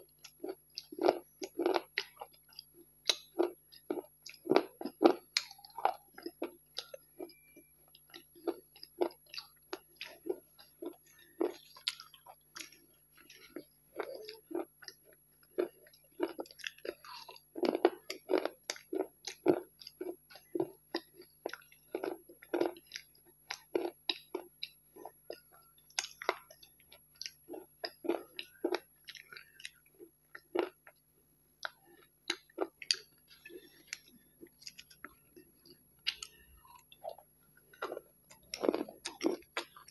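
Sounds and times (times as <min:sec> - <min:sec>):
chewing and crunching: 0:00.0 - 0:31.0, 0:31.6 - 0:39.9.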